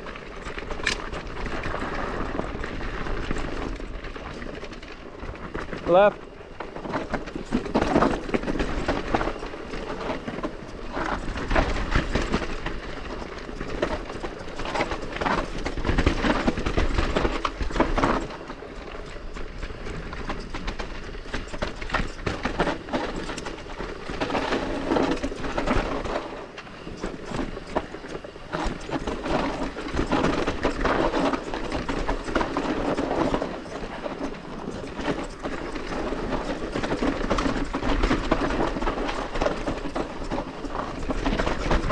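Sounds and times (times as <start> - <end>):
bike chain and frame rattling: 0.0 - 41.9
wind rumbling on microphone: 0.0 - 41.9.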